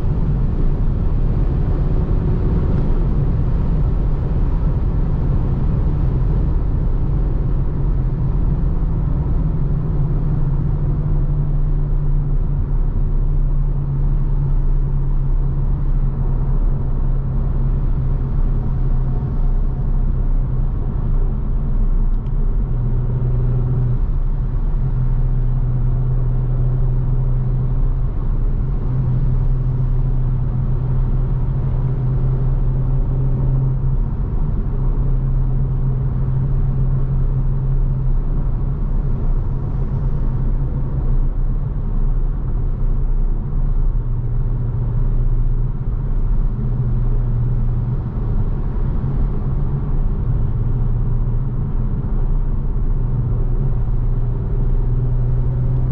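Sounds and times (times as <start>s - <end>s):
car engine droning: 0.0s - 55.9s
road rumble: 0.0s - 55.9s.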